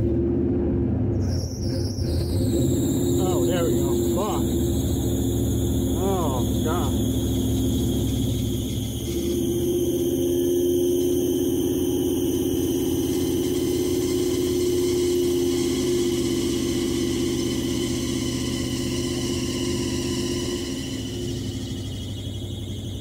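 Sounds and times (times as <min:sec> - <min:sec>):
car engine idling: 0:02.5 - 0:23.0.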